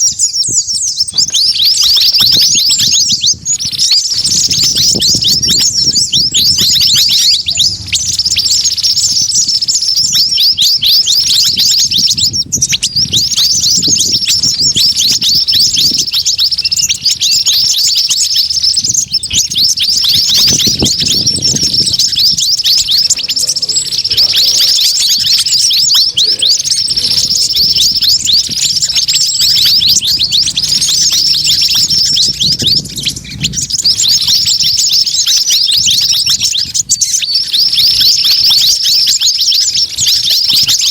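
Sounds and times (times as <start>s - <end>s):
songbird flock chirping: 0.0s - 40.9s.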